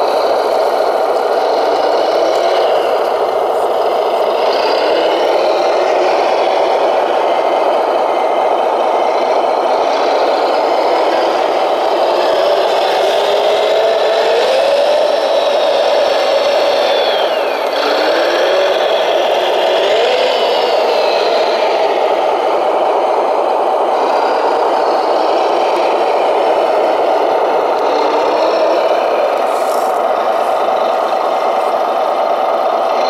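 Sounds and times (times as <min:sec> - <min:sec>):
model loader motor whine: 0:00.0 - 0:33.0.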